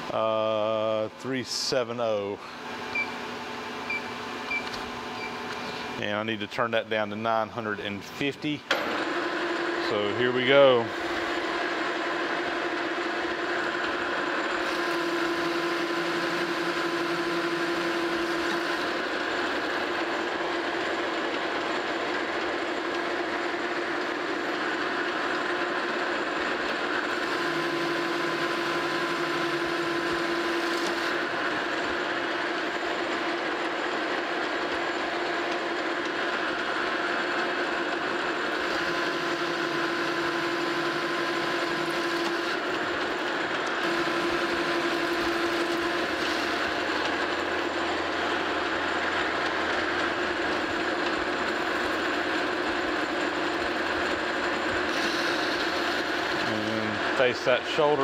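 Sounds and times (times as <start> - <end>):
metal lathe machine hum: 0.0 - 58.0
lathe tool cutting metal: 2.0 - 58.0.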